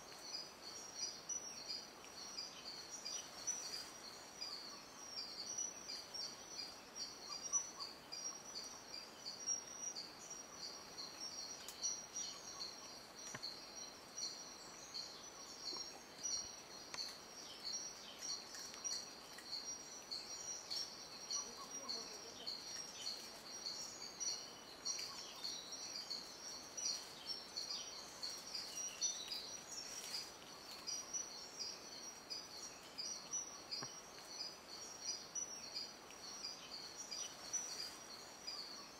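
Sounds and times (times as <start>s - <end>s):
faint bird chirps: 0.0s - 38.9s.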